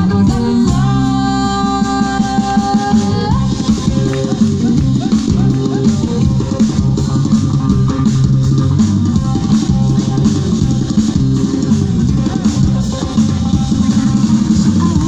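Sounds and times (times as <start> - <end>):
bass line: 0.0 - 15.0
drum kit: 0.0 - 15.0
guitar: 0.0 - 15.0.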